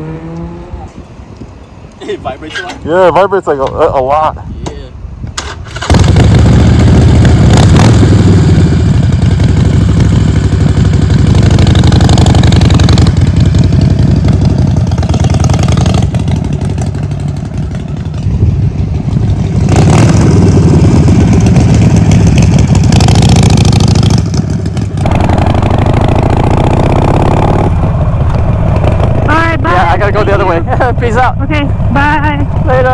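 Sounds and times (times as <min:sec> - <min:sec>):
motorcycle engine running: 0:05.8 - 0:32.9.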